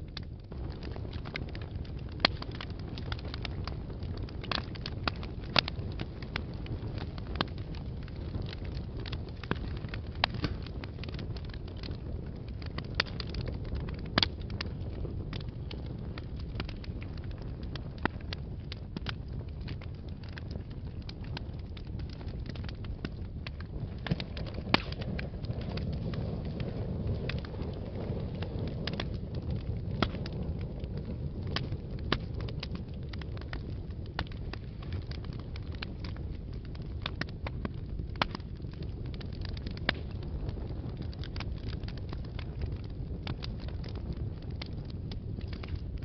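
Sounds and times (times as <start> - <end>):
fire crackling and popping: 0.0 - 46.0
fire flames rumbling: 0.0 - 46.0.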